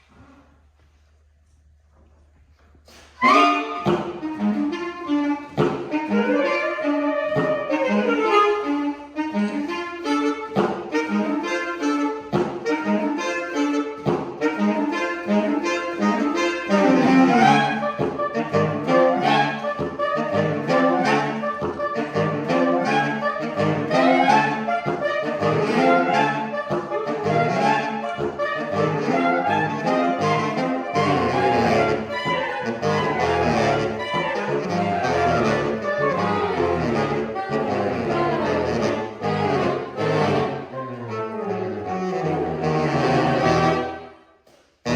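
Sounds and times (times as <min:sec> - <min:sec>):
saxophone quartet playing: 0:02.9 - 0:44.2.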